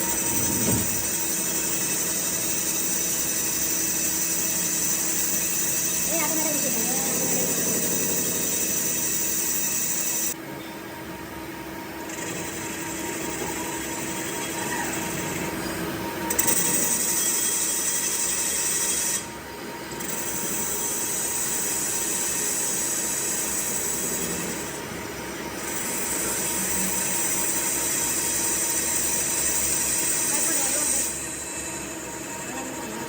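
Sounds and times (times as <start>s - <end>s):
machine tool running with hiss: 0.0s - 10.4s, 12.0s - 33.0s.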